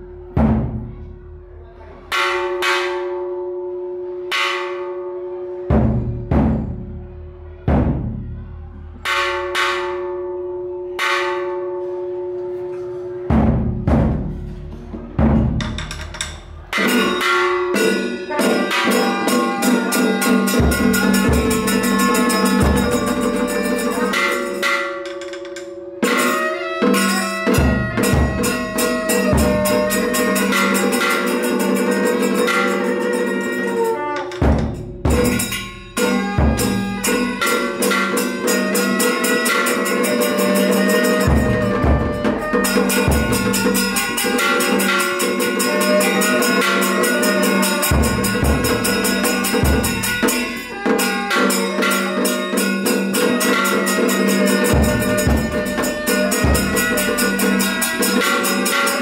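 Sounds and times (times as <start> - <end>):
drums beating fast: 0.0 - 1.0, 5.7 - 8.3, 13.3 - 59.0
large bell ringing: 2.1 - 6.8, 9.1 - 13.4, 15.6 - 59.0.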